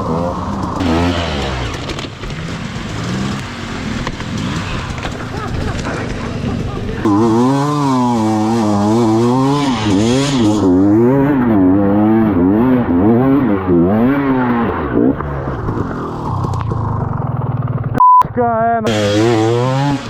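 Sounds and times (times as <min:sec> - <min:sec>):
dirt bike engine revving: 0:00.0 - 0:18.0, 0:18.9 - 0:20.0.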